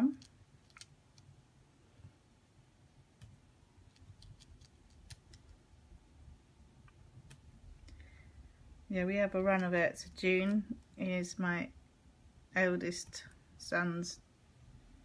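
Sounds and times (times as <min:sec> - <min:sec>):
faint crafting ticks and clicks: 0:00.0 - 0:14.8.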